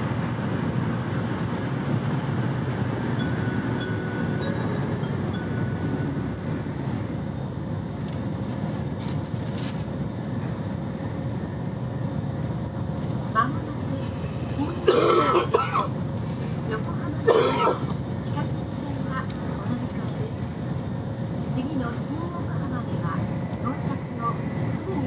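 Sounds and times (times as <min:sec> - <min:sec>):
train car running rumble: 0:00.0 - 0:25.0.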